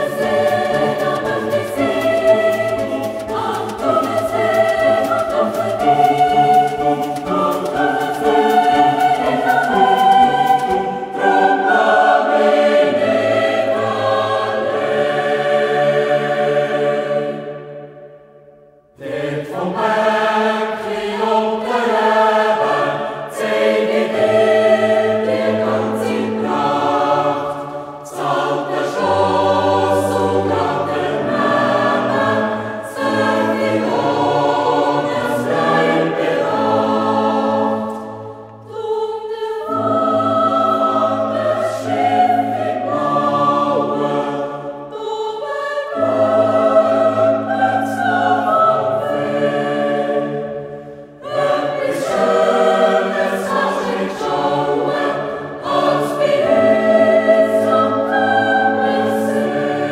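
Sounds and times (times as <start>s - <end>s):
choir singing folk song: 0.0s - 59.9s.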